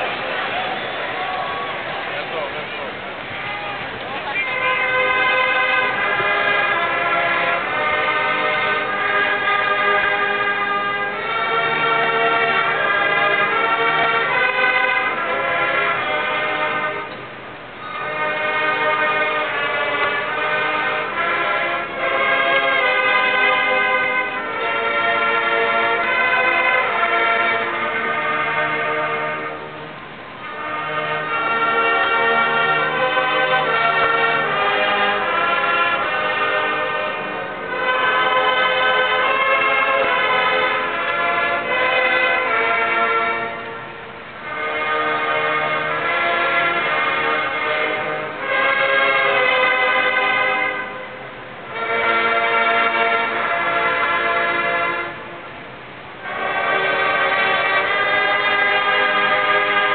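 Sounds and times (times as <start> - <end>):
choir singing held chords: 4.2 - 55.6, 56.2 - 59.9.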